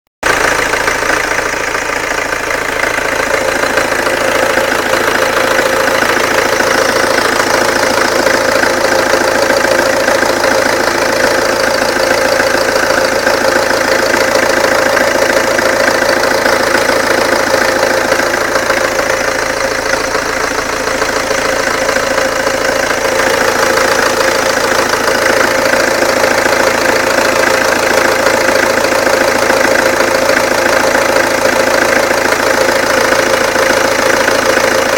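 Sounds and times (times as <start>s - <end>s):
diesel engine idling with ticking clatter: 0.2s - 34.9s.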